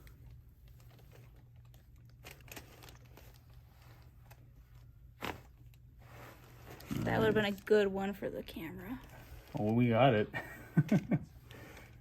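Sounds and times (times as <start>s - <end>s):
faint rustling of clothing: 0.0s - 10.3s.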